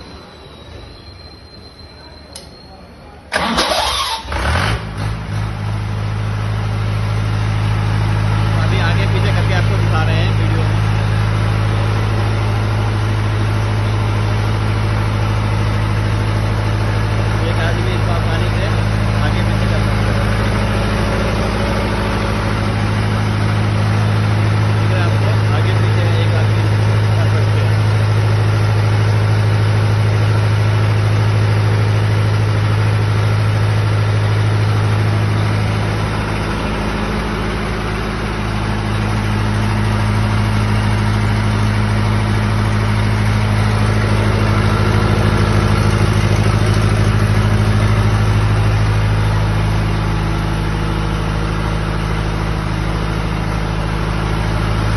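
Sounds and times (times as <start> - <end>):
diesel generator humming: 0.0 - 54.9.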